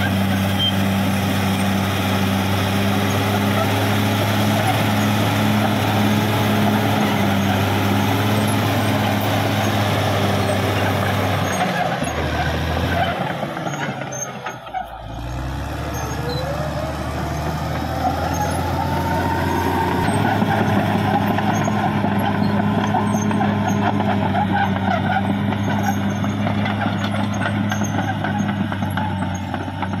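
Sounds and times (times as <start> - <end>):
bulldozer diesel engine working: 0.0 - 30.0.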